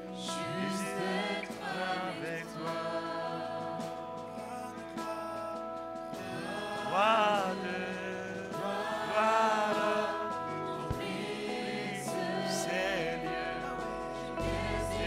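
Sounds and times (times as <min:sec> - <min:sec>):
person singing long notes: 0:00.0 - 0:05.6, 0:06.2 - 0:15.0
steady held chords: 0:00.0 - 0:15.0.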